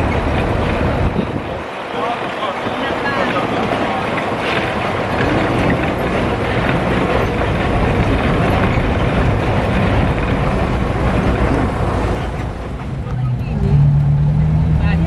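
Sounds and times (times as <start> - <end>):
engine and road noise inside minibus: 0.0 - 15.0.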